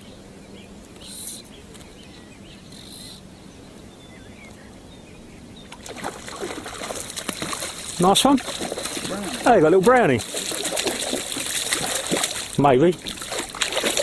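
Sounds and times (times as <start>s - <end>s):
distant birds chirping: 0.0s - 13.6s
low rumble of wind: 0.0s - 14.0s.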